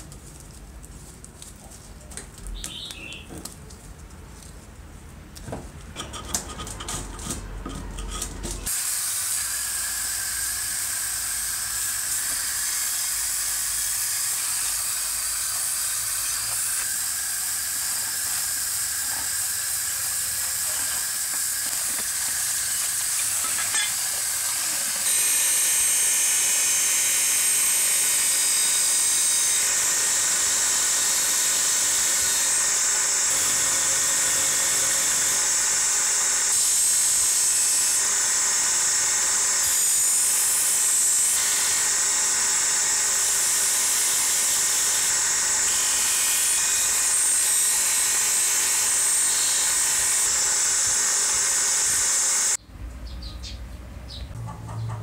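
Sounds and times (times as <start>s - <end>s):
power tool whirring on metal: 8.0s - 52.6s.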